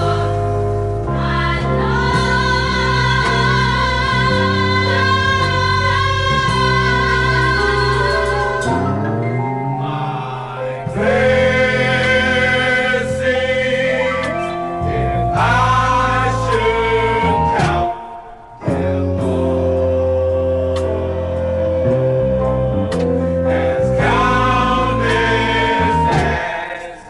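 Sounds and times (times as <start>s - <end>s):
steady bass line: 0.0s - 18.0s, 18.6s - 26.5s
gospel choir singing: 0.0s - 27.0s.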